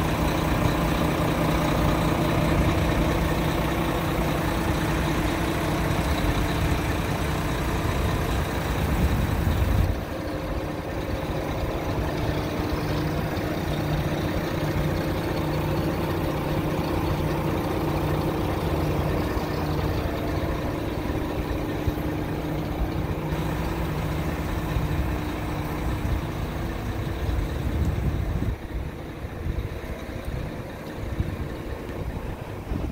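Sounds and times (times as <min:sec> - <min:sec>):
diesel truck engine idling: 0:00.0 - 0:32.9.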